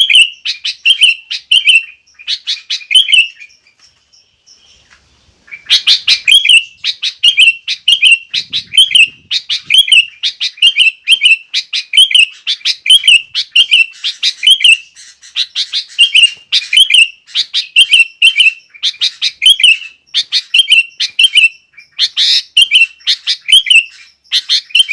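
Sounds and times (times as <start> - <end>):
bird singing chattering phrases: 0.0 - 24.9.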